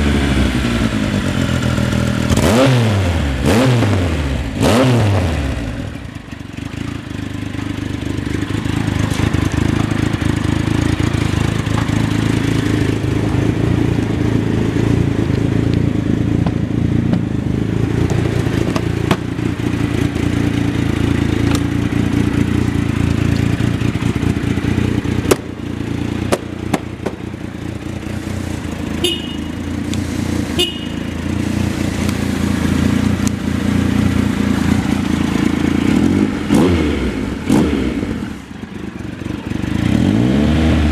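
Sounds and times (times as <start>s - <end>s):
motorcycle engine idling: 0.0s - 2.4s, 5.5s - 40.0s.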